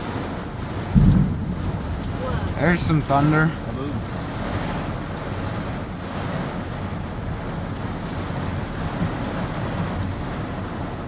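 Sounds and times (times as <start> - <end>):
rain: 0.0 - 11.0
wind: 0.0 - 11.0
wind buffeting the microphone: 0.0 - 11.0.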